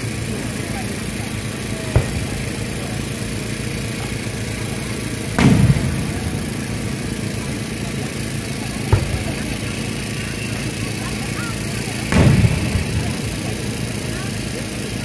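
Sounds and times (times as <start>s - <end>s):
fireworks booming: 0.0s - 15.0s
low background rumble: 0.0s - 15.0s.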